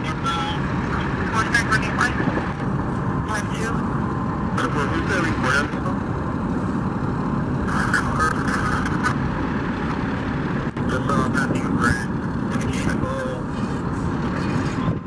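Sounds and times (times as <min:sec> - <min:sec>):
heavy equipment engine rumble: 0:00.0 - 0:15.0
indistinct voices talking: 0:00.0 - 0:15.0.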